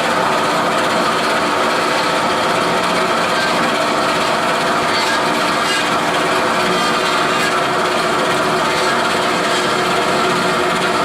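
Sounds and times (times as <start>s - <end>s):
bandsaw cutting steel tubing: 0.0s - 11.0s.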